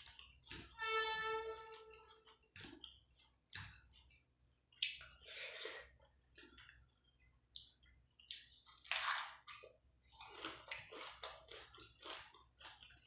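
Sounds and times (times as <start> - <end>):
chewing: 2.1 - 13.0.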